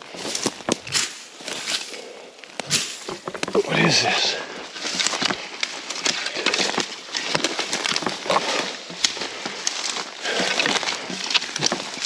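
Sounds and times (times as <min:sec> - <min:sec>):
twigs snapping underfoot: 0:00.0 - 0:03.7, 0:04.6 - 0:12.0
footsteps crunching through dry brush: 0:00.0 - 0:12.0.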